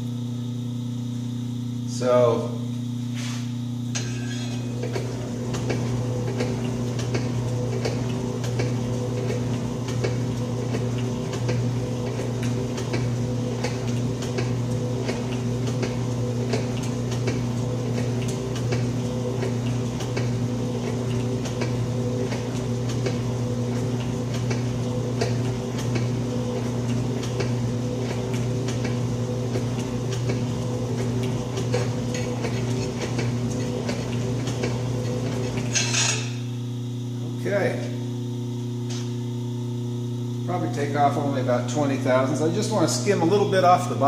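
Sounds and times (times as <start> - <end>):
electric motor hum: 0.0 - 44.0.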